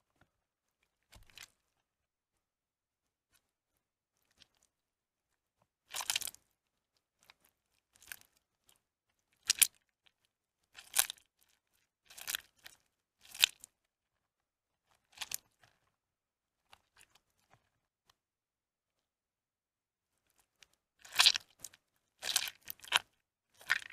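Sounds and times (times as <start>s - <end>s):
wet soap squishing: 0.1s - 2.0s, 3.3s - 18.2s, 20.1s - 23.9s.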